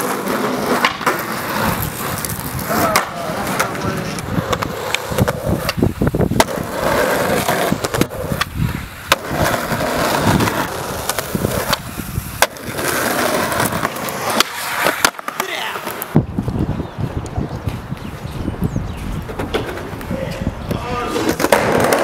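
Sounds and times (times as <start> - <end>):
skateboard clacks popping and landing: 0.0 - 16.2, 19.3 - 20.5, 21.1 - 22.0
skateboard wheels rolling on concrete: 0.0 - 22.0.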